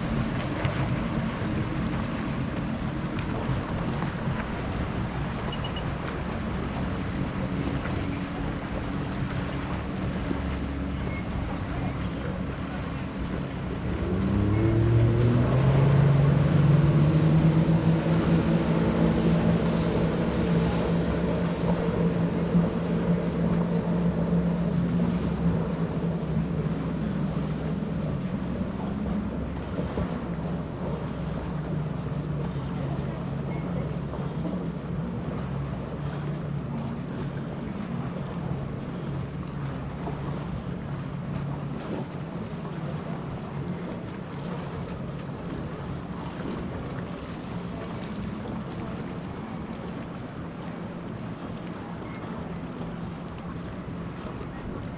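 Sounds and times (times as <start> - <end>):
jet ski engine drone: 0.0 - 54.9
water noise: 0.0 - 54.9
wind: 0.0 - 54.9.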